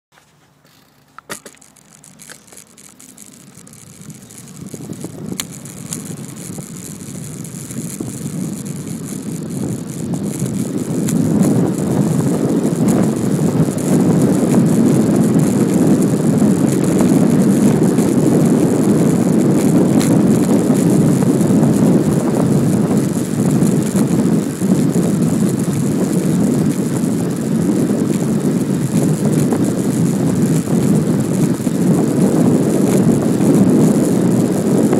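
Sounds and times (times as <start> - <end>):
wind buffeting microphone: 1.4 - 34.9.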